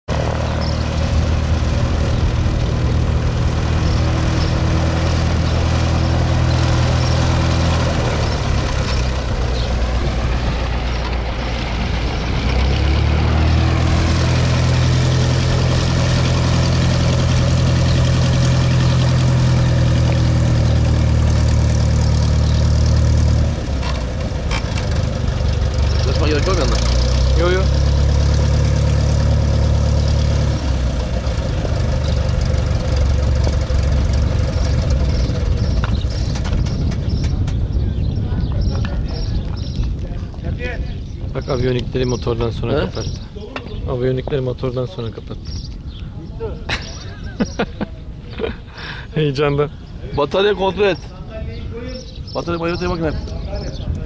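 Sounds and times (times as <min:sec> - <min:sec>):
light aircraft engine and propeller: 0:00.1 - 0:43.8.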